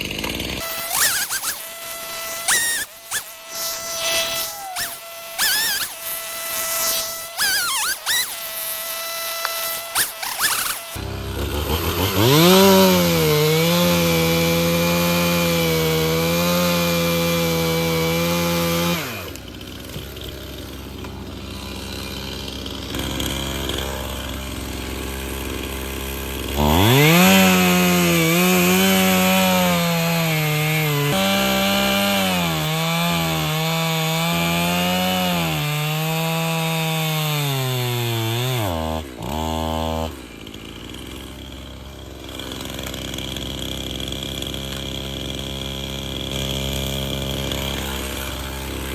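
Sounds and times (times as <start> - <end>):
chainsaw revving and idling: 0.0 - 48.9.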